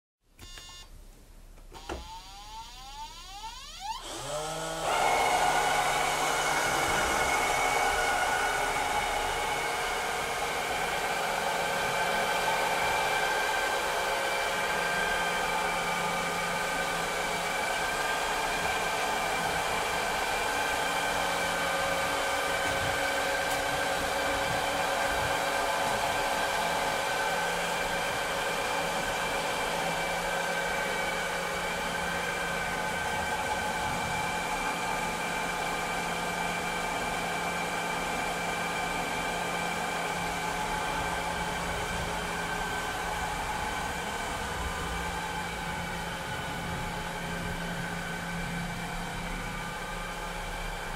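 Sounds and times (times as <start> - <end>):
robotic vacuum cleaner motor whirring: 1.8 - 48.5.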